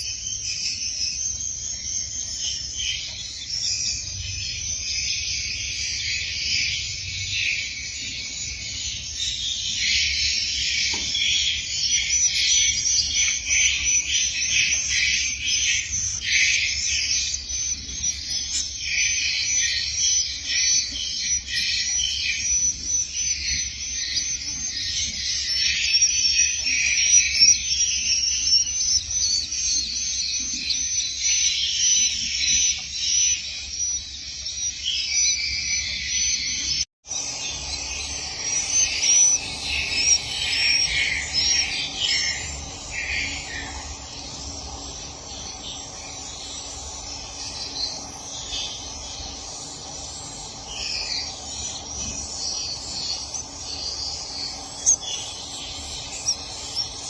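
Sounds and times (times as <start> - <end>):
swiftlets twittering chorus: 0.0 - 57.0.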